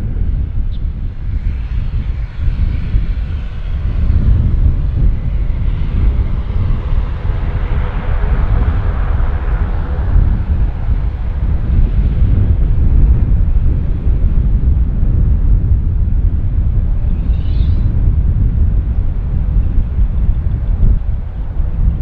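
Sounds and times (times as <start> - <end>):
airliner engines rumbling overhead: 0.0 - 22.0.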